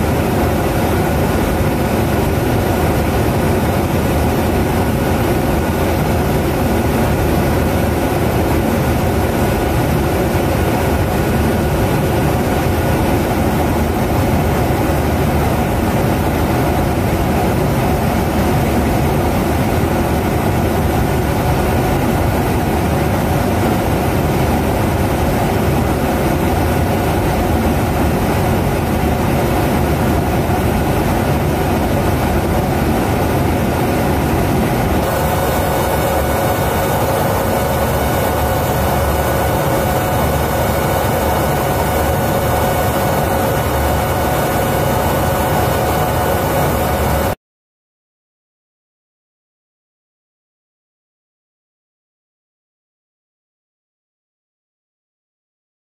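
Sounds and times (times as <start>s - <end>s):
aircraft engines droning: 0.0s - 47.4s.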